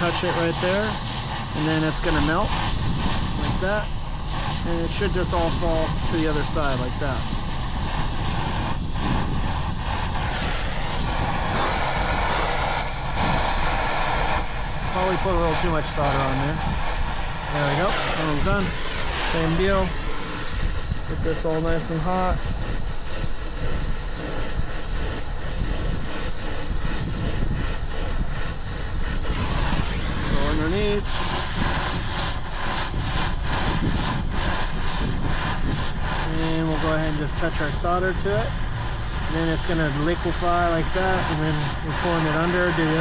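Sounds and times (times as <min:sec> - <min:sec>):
torch flame hissing: 0:00.0 - 0:43.0.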